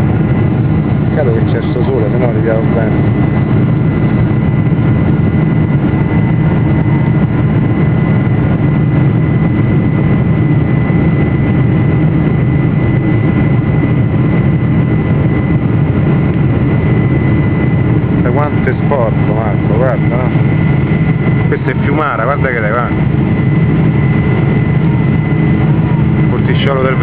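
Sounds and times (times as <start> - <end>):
jet engine and airflow rumble: 0.0 - 27.0
thin steady whine: 0.0 - 27.0.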